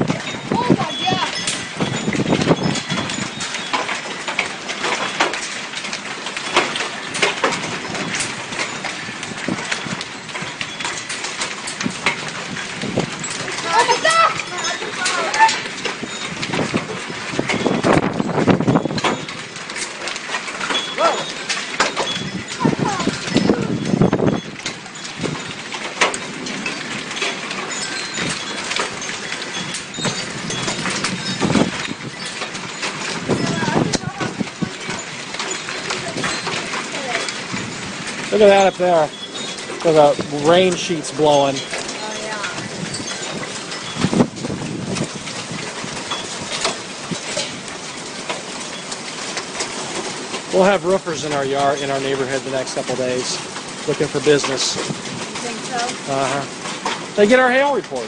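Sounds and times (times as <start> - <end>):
hailstones striking: 0.0 - 58.0.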